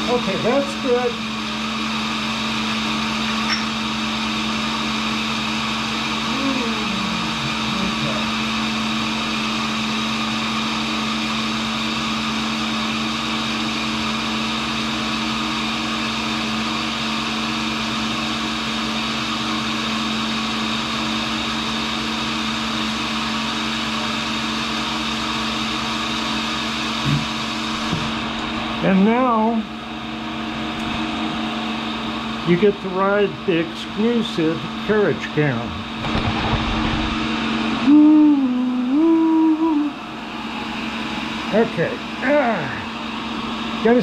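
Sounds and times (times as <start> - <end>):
grinder motor hum with high whine: 0.0 - 44.0.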